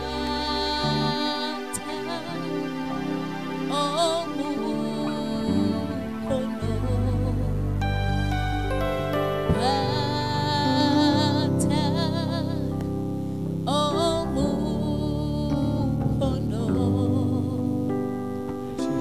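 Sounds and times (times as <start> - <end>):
woman singing into microphone: 0.0 - 8.8, 9.4 - 13.0, 13.6 - 19.0
electric keyboard chords: 0.0 - 19.0.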